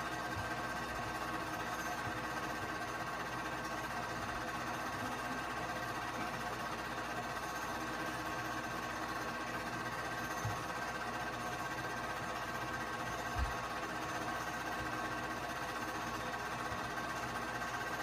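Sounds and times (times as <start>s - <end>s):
film projector humming: 0.0s - 18.0s.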